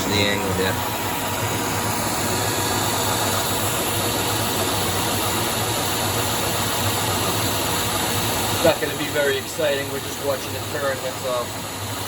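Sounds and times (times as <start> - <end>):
coolant spray mist hissing: 0.0 - 12.0
lathe low hum: 0.0 - 12.0.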